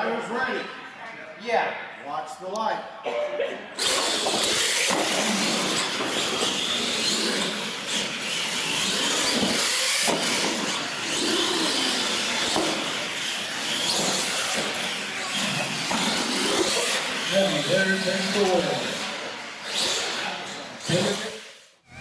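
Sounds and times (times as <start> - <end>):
toy trucks motor and tyre noise: 3.8 - 22.0.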